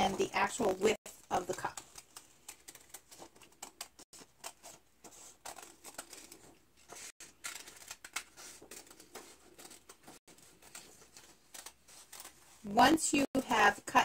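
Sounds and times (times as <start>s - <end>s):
scissors snipping paper: 1.1s - 13.3s.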